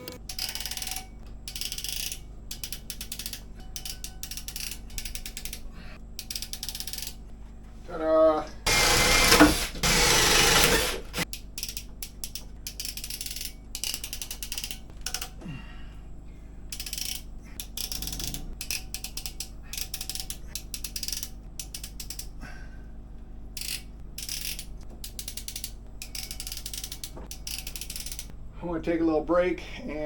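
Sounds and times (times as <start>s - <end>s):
hand tool clicking and scraping: 0.0s - 7.2s, 8.7s - 15.4s, 16.7s - 22.4s, 23.5s - 28.4s.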